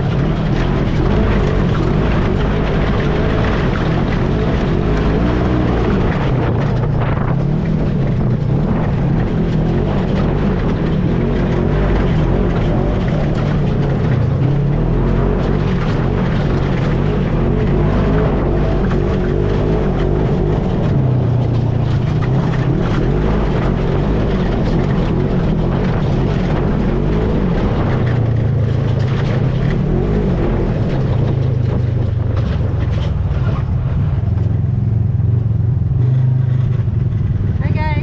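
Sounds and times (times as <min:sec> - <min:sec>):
atv engine droning: 0:00.0 - 0:38.0
machine rattling over rough ground: 0:00.0 - 0:38.0.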